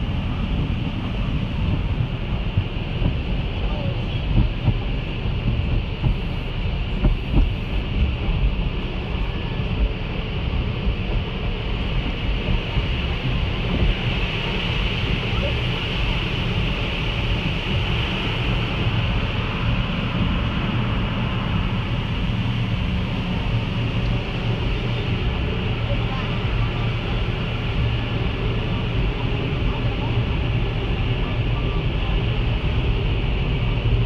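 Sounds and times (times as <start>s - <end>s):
car wash machinery rumble: 0.0s - 34.0s
water jets spraying on car: 0.0s - 34.0s.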